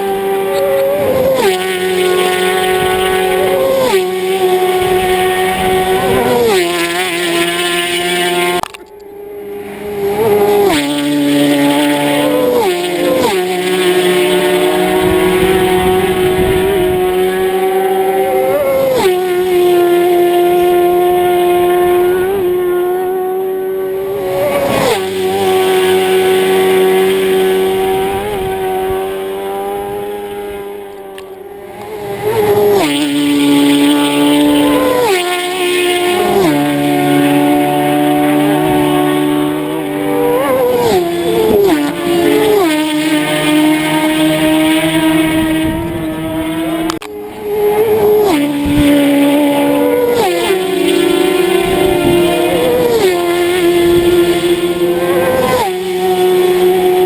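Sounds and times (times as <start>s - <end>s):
racing motorcycles passing by: 0.0s - 57.0s.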